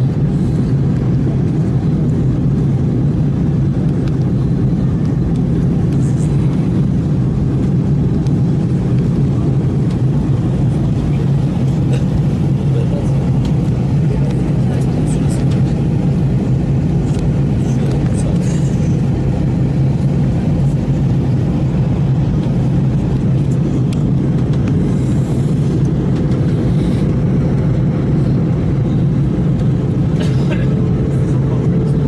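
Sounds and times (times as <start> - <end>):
airliner cabin drone: 0.0 - 32.0.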